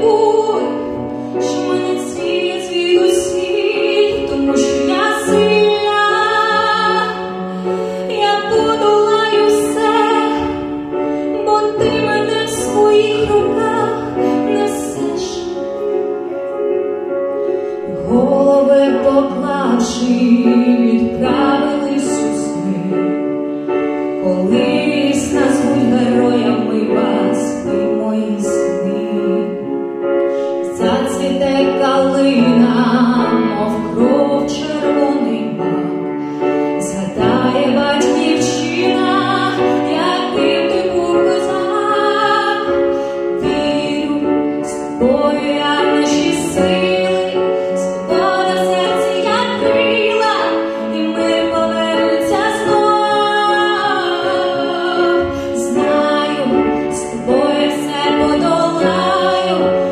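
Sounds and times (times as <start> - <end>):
woman singing a slow ballad: 0.0 - 15.6, 17.9 - 23.4, 24.1 - 59.9
piano accompaniment: 0.0 - 59.9.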